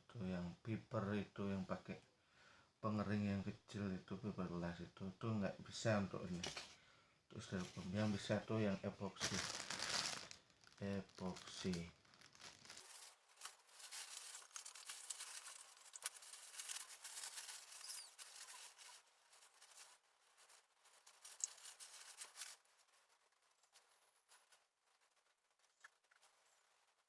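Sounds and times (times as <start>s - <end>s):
faint rustling and scratching: 4.2s - 27.0s.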